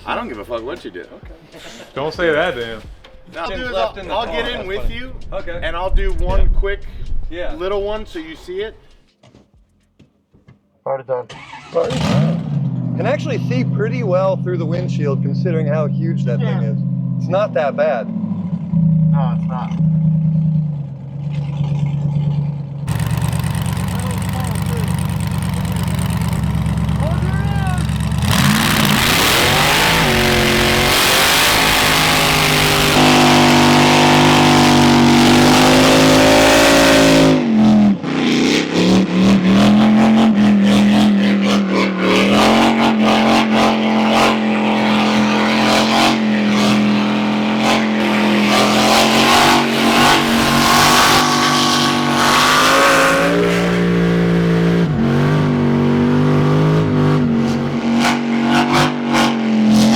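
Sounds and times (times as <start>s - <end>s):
engine hitting rev limiter: 11.3s - 59.9s
tires screeching: 11.3s - 59.9s
engine at high revs: 11.4s - 59.9s.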